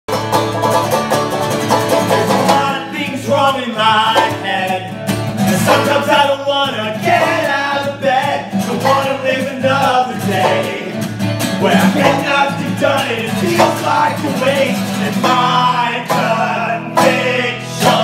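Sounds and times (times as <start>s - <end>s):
acoustic guitar and banjo playing: 0.1s - 18.0s
man singing: 2.3s - 18.0s.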